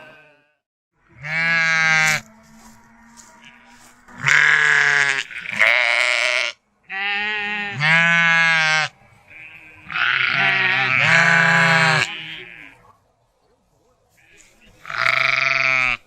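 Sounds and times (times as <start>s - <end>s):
sheep bleating: 0.0s - 12.8s, 14.2s - 16.0s.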